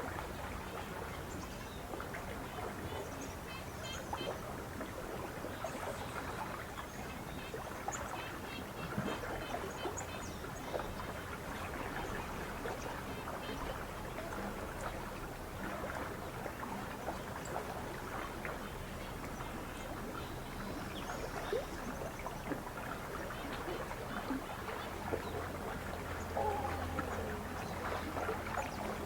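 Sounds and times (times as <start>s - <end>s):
water lapping against shore: 0.0s - 29.0s.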